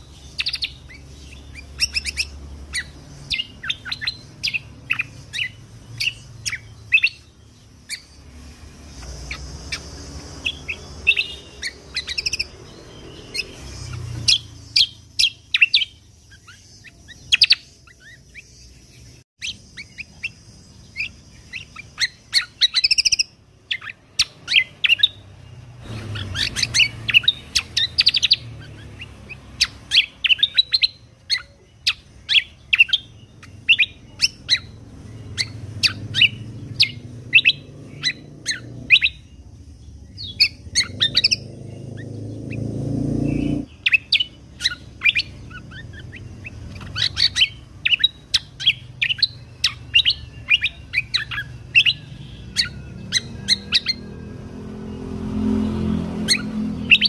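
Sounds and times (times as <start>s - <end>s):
bird chirping in fast runs: 0.0s - 54.1s, 56.1s - 57.0s.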